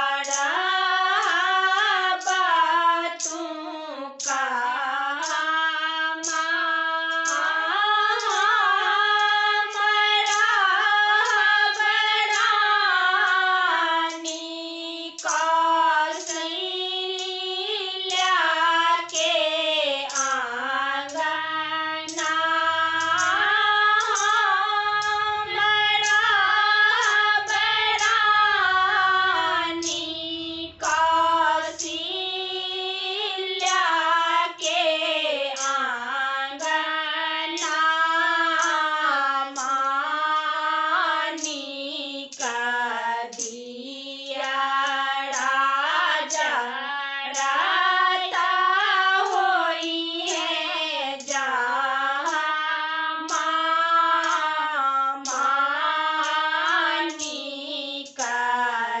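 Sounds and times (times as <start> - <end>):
women singing in unison: 0.0 - 59.0.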